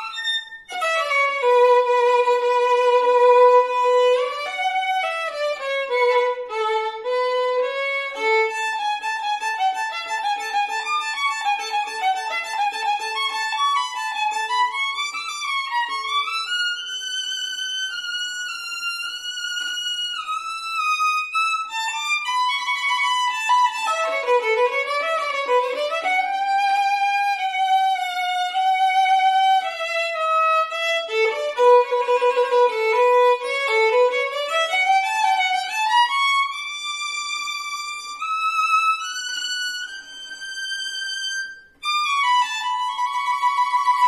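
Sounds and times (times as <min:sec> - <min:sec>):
solo violin: 0:00.0 - 0:44.0.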